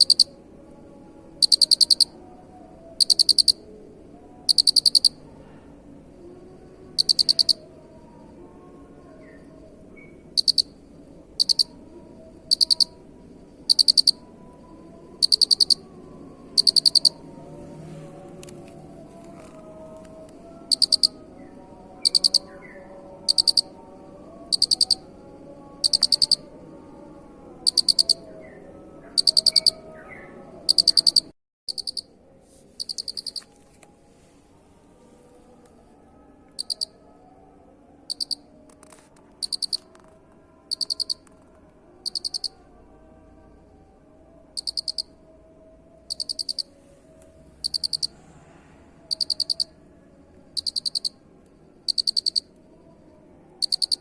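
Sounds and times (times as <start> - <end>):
cricket chirping: 0.0 - 33.5, 35.5 - 38.7, 39.4 - 54.0.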